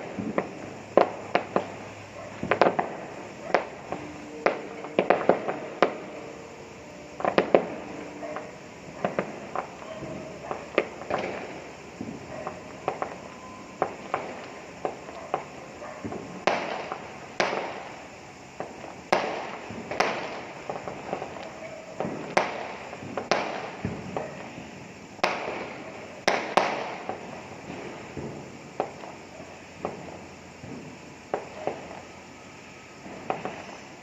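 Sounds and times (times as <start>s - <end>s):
crackling pops: 0.0s - 6.4s, 7.2s - 32.1s
fireworks bangs: 0.0s - 34.0s.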